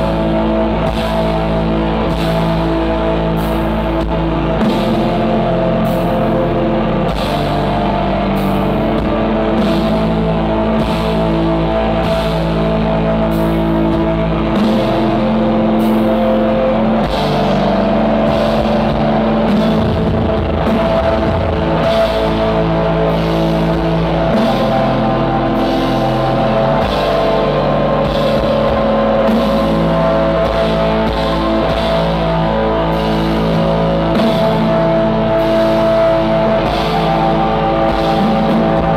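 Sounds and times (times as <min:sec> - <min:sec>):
metal band playing live: 0:00.0 - 0:38.9.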